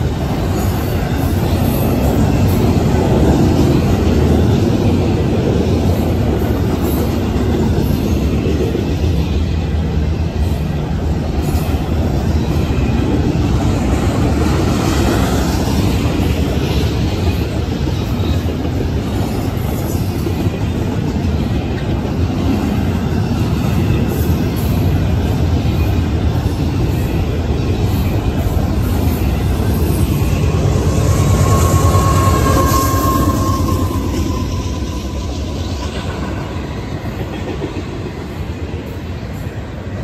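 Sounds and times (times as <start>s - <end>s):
freight train wheels on rails: 0.0s - 40.0s.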